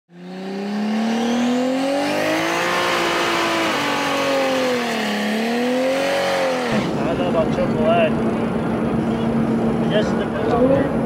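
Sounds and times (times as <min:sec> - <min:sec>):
car engine revving high: 0:00.1 - 0:11.0.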